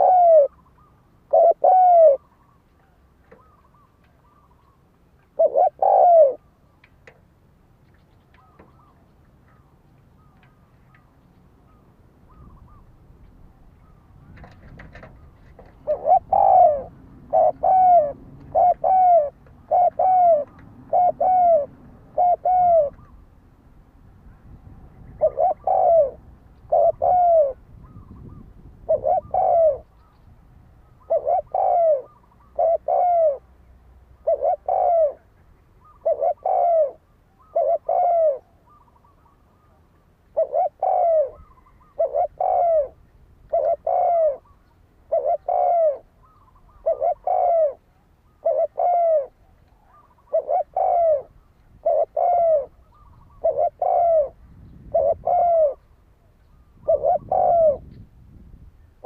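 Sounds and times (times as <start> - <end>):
dove cooing: 0.0 - 6.6, 8.3 - 23.3, 24.4 - 30.2, 30.8 - 58.6.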